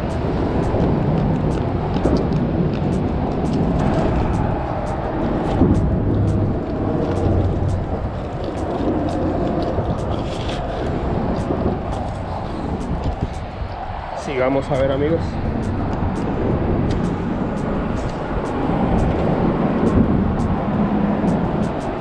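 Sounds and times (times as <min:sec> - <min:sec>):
traffic rumble overhead: 0:00.0 - 0:22.0.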